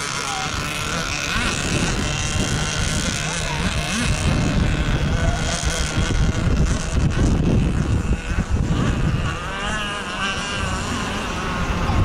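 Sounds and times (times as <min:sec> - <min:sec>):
model boat engine whine: 0:00.0 - 0:12.0
wind buffeting microphone: 0:00.0 - 0:12.0.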